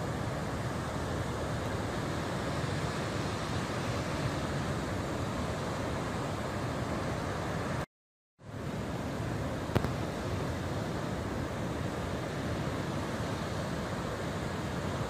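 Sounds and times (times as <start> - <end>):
ocean surf breaking: 0.0 - 7.8, 8.6 - 15.0.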